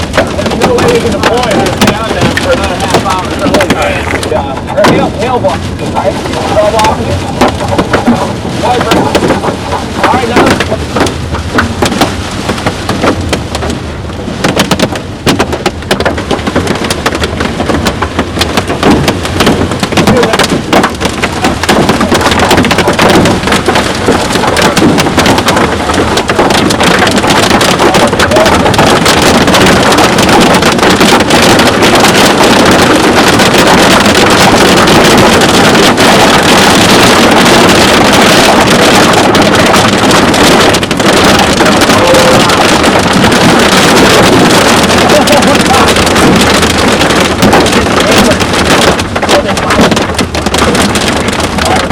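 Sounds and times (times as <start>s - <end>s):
hail and rain pelting a vehicle: 0.0s - 51.9s.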